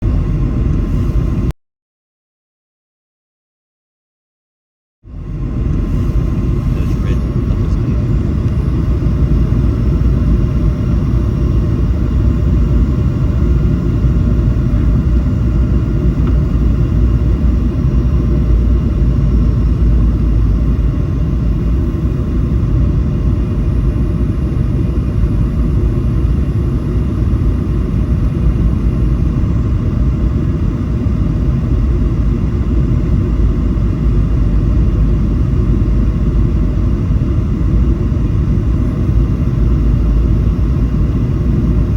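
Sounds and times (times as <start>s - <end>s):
faint steady whines: 0.0s - 1.5s, 5.1s - 41.9s
jet engine roar in cabin: 0.0s - 1.6s, 5.0s - 41.9s.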